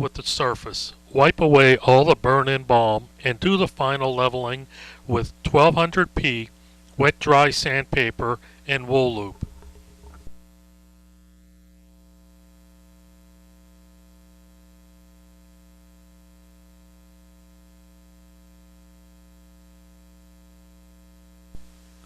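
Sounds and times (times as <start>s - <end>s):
low electrical hum with hiss: 0.0s - 22.0s.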